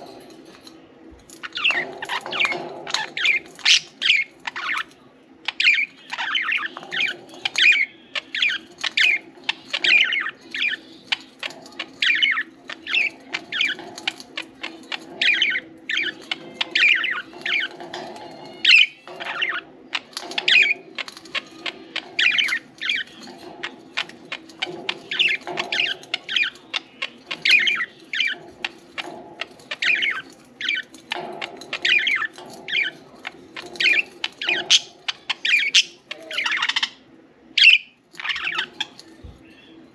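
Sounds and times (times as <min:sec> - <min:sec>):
steady low hum: 0:00.0 - 0:39.9
budgerigars chirping and chattering: 0:01.3 - 0:39.9.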